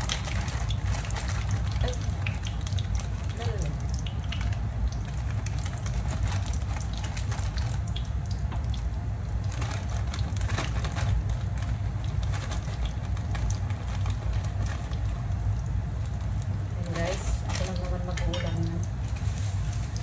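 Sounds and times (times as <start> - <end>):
food sizzling in hot oil: 0.0 - 20.0
low steady rumble: 0.0 - 20.0.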